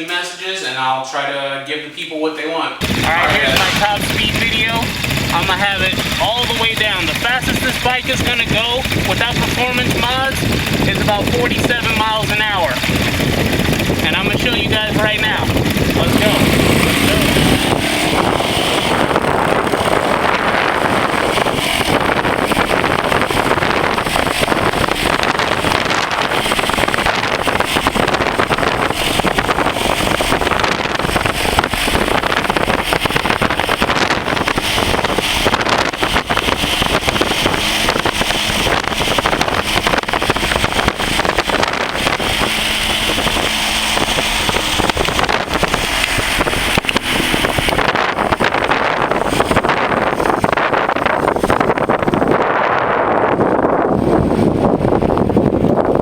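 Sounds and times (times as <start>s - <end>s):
pocket bike engine at full throttle: 2.8s - 56.0s
wind noise on microphone: 2.8s - 56.0s.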